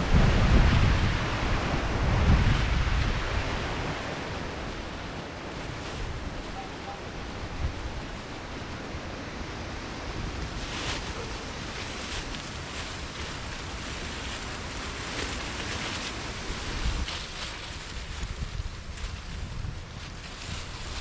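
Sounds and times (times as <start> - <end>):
strong wind gusting through forest: 0.0 - 21.0
wind buffeting on microphone: 0.0 - 21.0.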